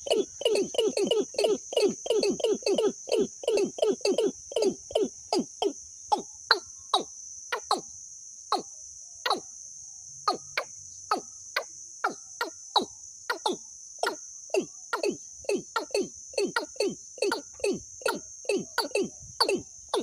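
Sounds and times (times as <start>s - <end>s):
high insect-like buzz: 0.0s - 20.0s.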